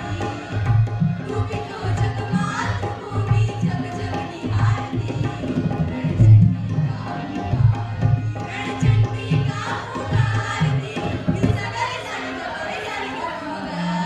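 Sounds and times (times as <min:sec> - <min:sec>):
women singing folk song: 0:00.0 - 0:14.0.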